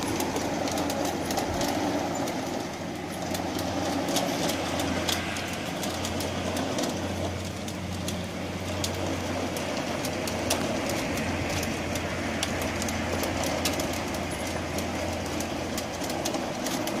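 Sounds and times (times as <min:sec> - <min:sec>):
dog paws ticking on belt: 0:00.0 - 0:17.0
treadmill motor humming: 0:00.0 - 0:17.0.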